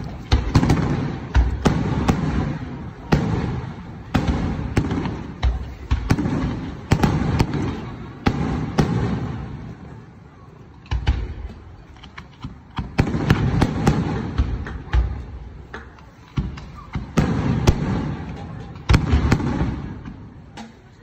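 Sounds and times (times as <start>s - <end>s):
firework bangs with low rumble: 0.0s - 10.1s, 10.9s - 11.8s, 12.5s - 20.6s.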